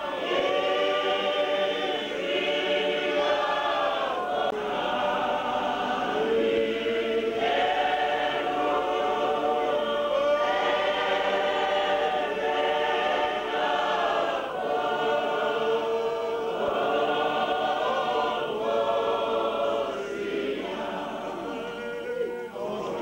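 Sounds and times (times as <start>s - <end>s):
church choir singing: 0.0s - 23.0s.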